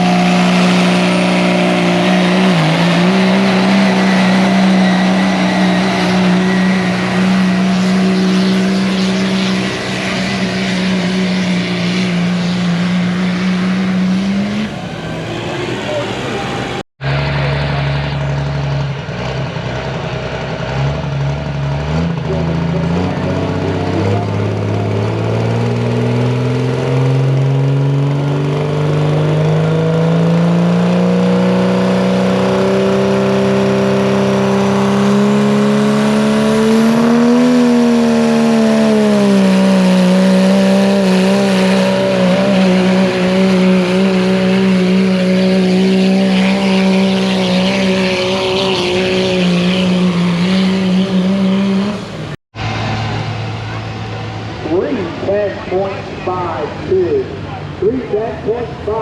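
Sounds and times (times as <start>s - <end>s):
tractor engine under load: 0.0s - 29.9s, 31.9s - 59.0s.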